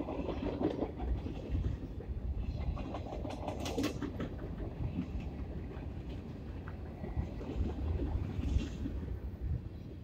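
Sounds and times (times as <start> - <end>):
steel wheels clattering on rails: 0.0 - 9.1.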